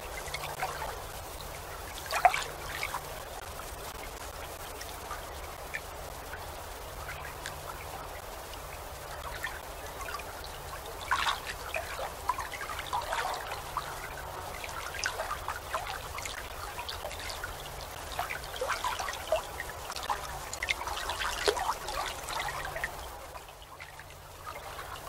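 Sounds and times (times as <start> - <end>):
water lapping and trickling: 0.0 - 25.0.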